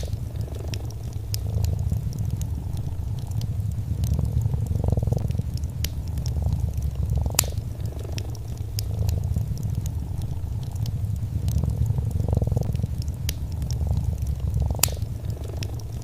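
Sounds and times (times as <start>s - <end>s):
cat purring: 0.0s - 16.0s
fireplace fire crackling: 0.0s - 16.0s.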